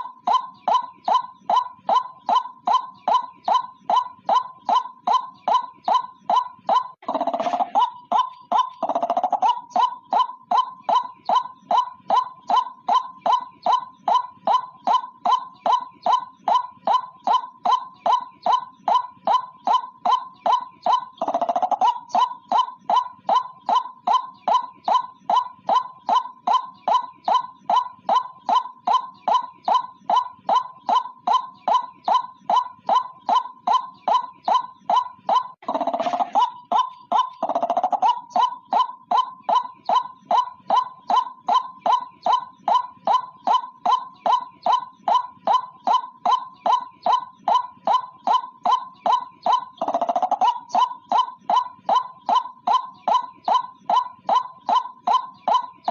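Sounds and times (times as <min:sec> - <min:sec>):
waterhen calling: 0:00.0 - 0:55.9.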